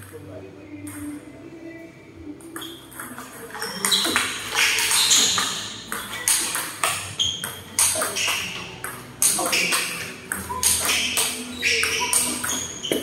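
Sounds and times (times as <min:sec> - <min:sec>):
table tennis ball clicks: 0:02.5 - 0:13.0.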